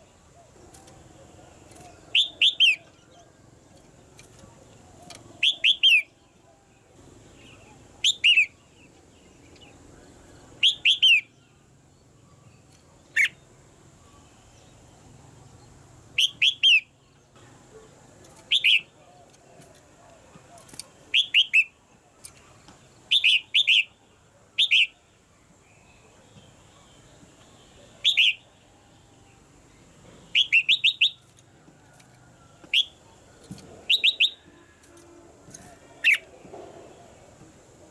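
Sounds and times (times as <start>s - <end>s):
bird chirping calls: 0.0s - 37.9s.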